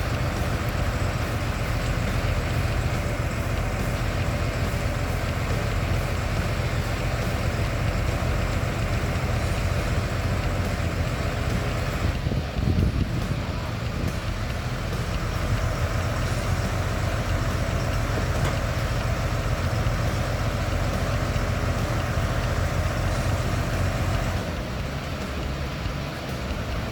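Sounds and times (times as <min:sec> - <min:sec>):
heavy vehicle engine rumbling: 0:00.0 - 0:26.9.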